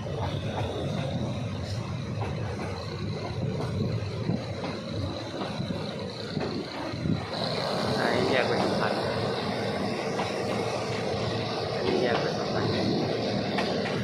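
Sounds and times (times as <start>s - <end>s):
high-pitched whine: 0.0s - 14.0s
train rumbling: 0.0s - 14.0s.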